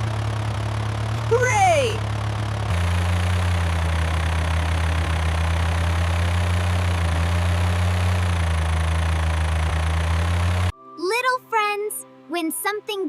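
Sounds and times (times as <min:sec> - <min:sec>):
cartoon vehicle engine idling: 0:00.0 - 0:10.7.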